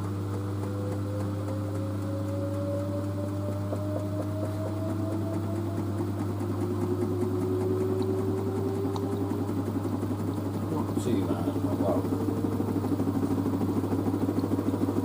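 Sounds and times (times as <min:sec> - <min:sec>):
constant low hum: 0:00.0 - 0:15.0
washing machine motor whining: 0:00.0 - 0:15.0.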